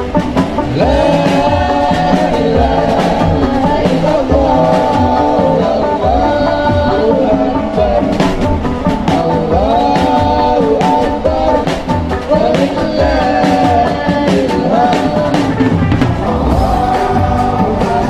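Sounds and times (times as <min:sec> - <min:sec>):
drum kit beats: 0:00.0 - 0:18.0
person singing: 0:00.0 - 0:18.0.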